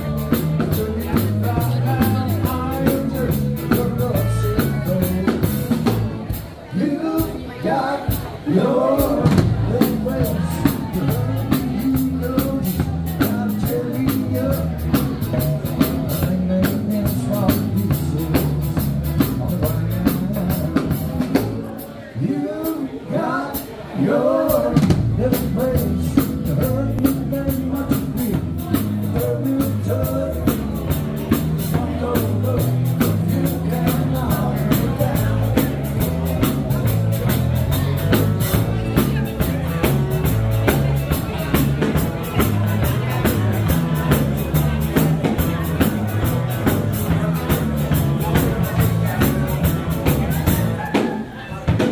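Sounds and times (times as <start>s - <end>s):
music with drum beat and singing: 0.0s - 51.9s.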